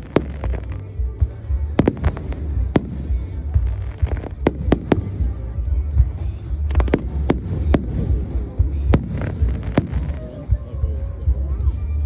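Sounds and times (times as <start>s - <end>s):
fireworks bangs: 0.0s - 10.7s.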